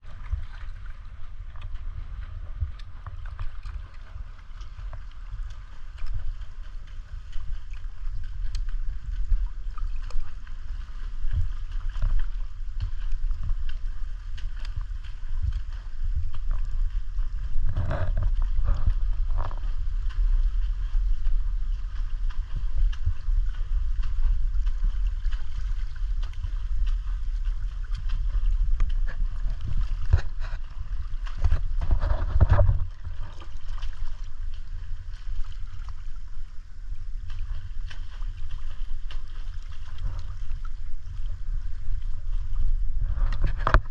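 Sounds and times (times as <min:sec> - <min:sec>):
muffled underwater sloshing: 0:00.0 - 0:43.9
water gurgle: 0:00.0 - 0:43.9.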